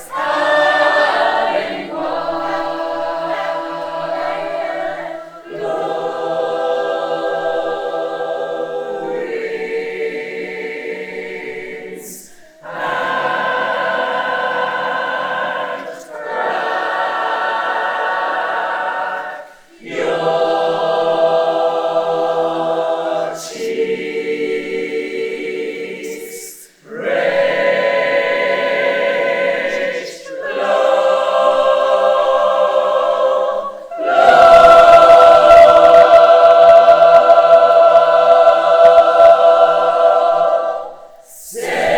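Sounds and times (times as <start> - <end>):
choir singing held chords: 0.0 - 41.9.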